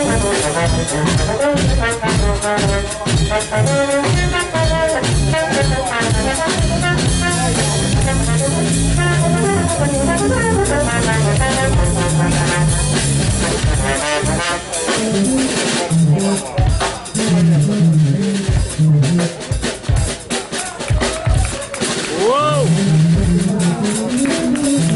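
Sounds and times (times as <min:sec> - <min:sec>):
moving bass line: 0:00.0 - 0:19.7, 0:22.2 - 0:24.9
trombone: 0:00.0 - 0:20.6, 0:21.2 - 0:24.9
drum kit: 0:00.0 - 0:24.9.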